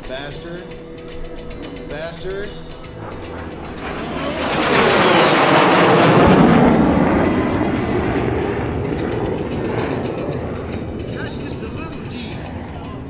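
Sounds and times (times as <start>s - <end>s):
jet aircraft passing: 0.0s - 13.0s.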